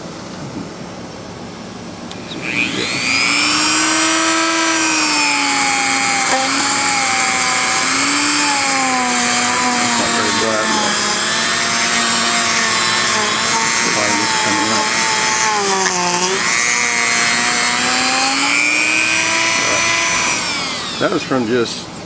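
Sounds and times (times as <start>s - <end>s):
rotary tool grinding whine: 2.1s - 21.7s.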